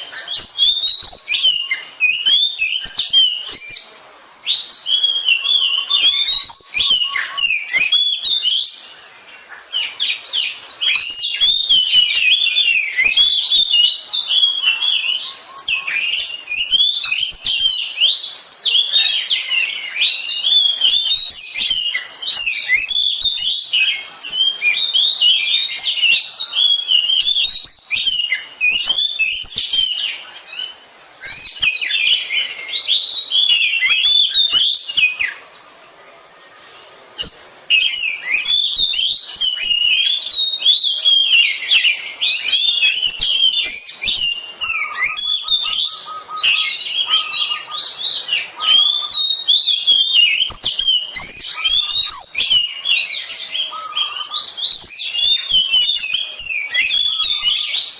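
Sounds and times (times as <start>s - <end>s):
bird singing whistles and chatter: 0.0s - 35.5s, 36.4s - 57.9s.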